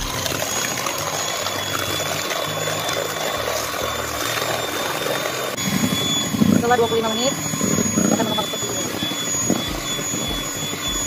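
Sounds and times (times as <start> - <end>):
beaters churning batter: 0.0 - 11.0
electric hand mixer whirring: 0.0 - 11.0.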